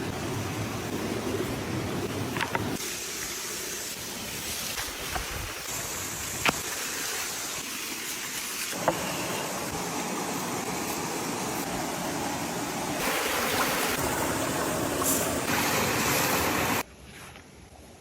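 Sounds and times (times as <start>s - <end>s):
steady hissing: 0.0s - 16.8s.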